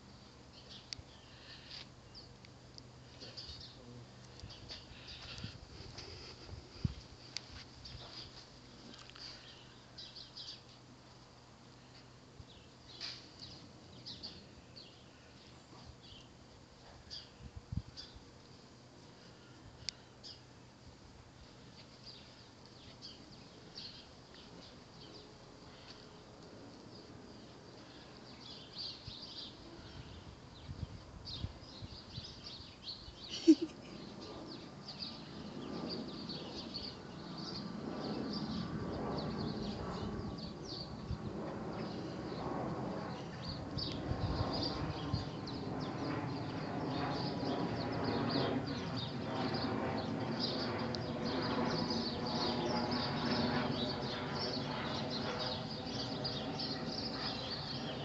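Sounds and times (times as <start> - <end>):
low hum of held tones: 0.0 - 58.0
small birds chirping: 0.1 - 11.0, 11.7 - 18.3, 19.1 - 20.6, 21.4 - 41.1, 43.1 - 58.0.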